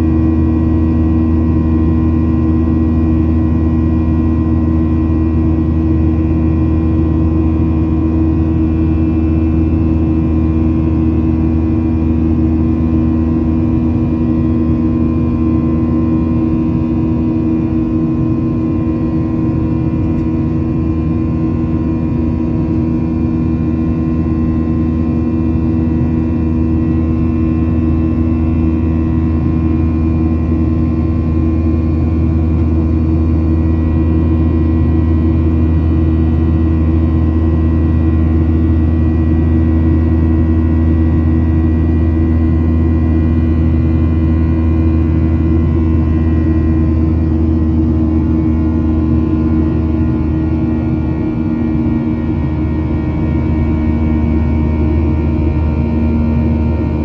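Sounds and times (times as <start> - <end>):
jet engines droning: 1.6 - 57.0.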